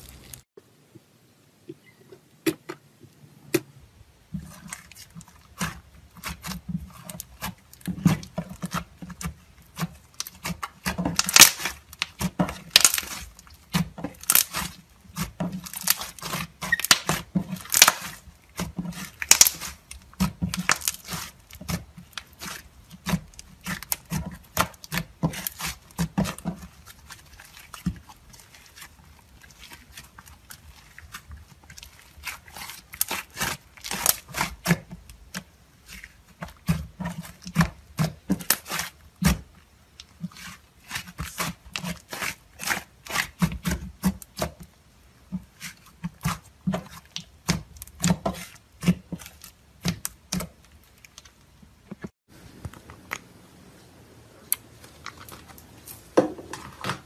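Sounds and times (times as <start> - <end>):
slime kneaded by hand: 3.4 - 53.2.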